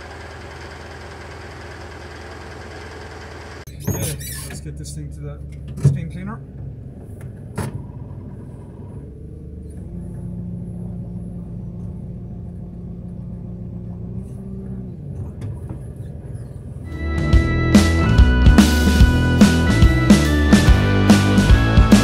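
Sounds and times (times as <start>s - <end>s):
loader diesel engine running: 0.0s - 22.0s.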